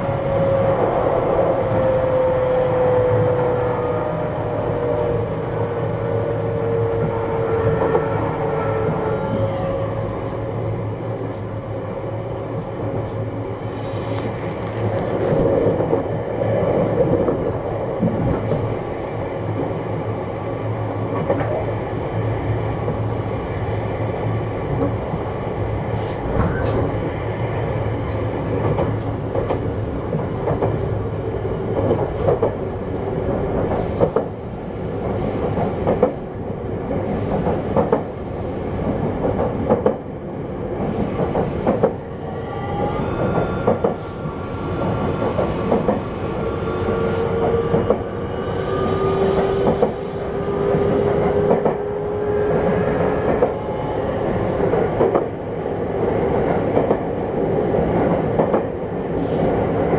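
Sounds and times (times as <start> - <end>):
train running noise: 0.0 - 59.9.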